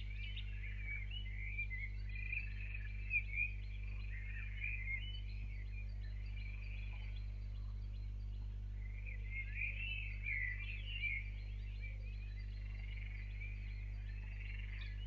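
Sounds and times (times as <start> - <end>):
low electrical hum: 0.0 - 15.0
small birds chirping: 0.0 - 15.0.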